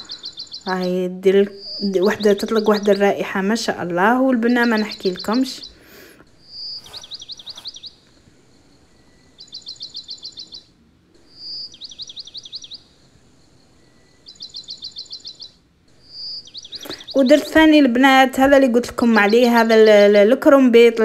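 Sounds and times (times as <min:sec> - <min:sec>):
songbird singing trilled phrases: 0:00.0 - 0:21.0.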